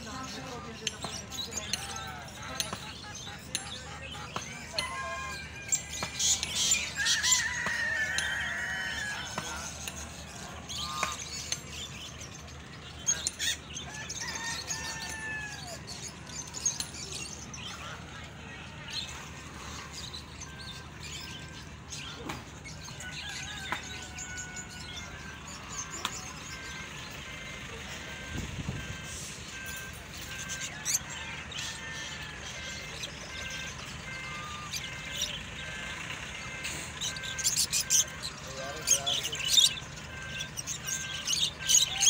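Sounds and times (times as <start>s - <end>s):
birds calling and chirping: 0.0s - 42.0s.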